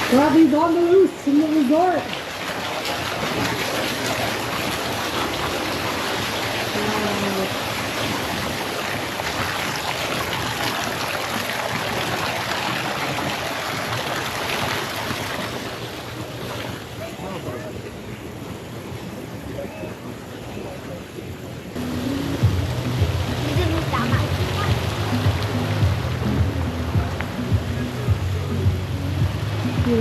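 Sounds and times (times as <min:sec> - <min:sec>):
running water rushing: 0:00.0 - 0:30.0.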